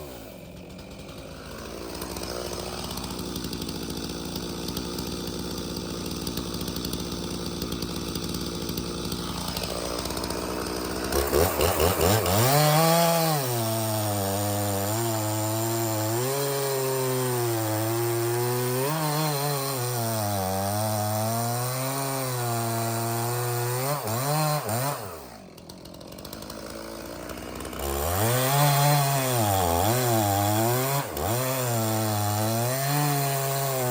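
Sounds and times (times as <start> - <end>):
chainsaw sawing wood: 0.0 - 33.9.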